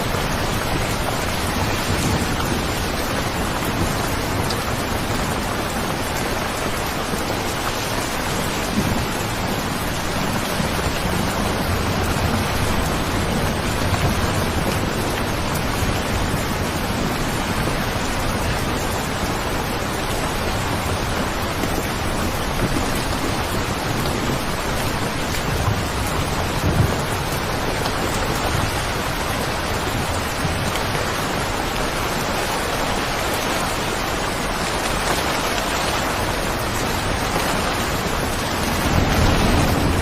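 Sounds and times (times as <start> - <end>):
distant thunder rumbling: 0.0 - 40.0
heavy rain: 0.0 - 40.0.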